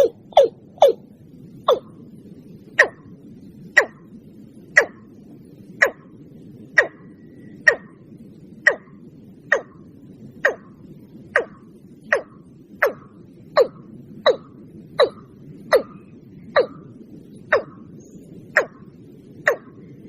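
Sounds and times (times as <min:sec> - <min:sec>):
faint low hiss: 0:00.0 - 0:20.0.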